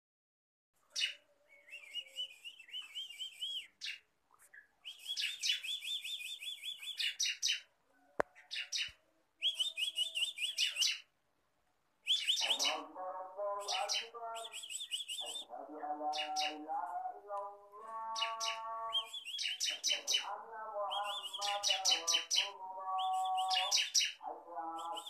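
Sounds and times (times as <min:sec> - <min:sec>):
bird singing high chirps: 0:00.9 - 0:07.7, 0:08.3 - 0:11.1, 0:12.0 - 0:16.6, 0:17.8 - 0:25.0.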